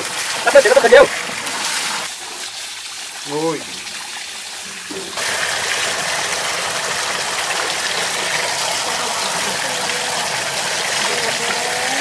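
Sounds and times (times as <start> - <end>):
hose water gushing into tub: 0.0 - 12.0.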